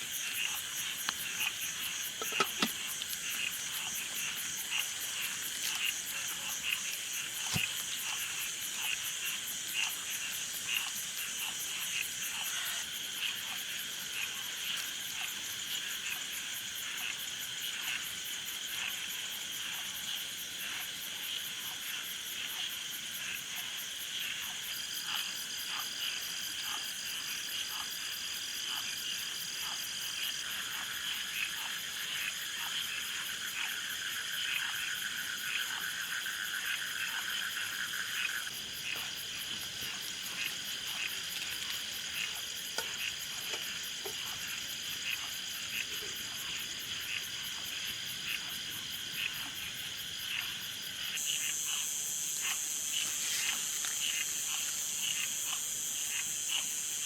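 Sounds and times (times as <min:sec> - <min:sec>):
frogs calling: 0:00.0 - 0:26.9, 0:29.6 - 0:57.0
insects trilling: 0:00.0 - 0:57.0.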